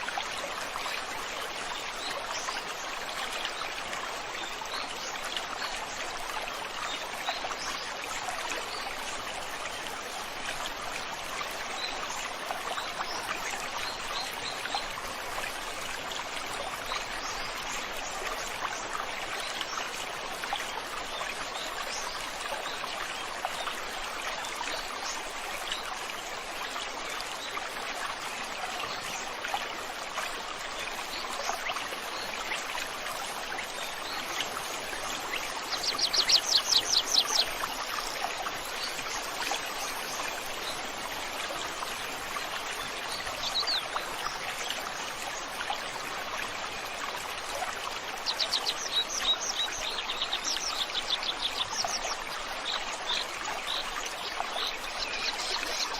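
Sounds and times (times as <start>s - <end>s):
river water flowing over stones: 0.0s - 55.9s.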